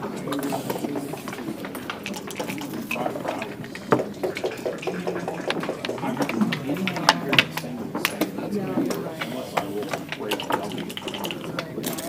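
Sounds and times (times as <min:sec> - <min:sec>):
murmur of voices: 0:00.0 - 0:12.0
checkers and dice clacking on board: 0:00.4 - 0:12.0.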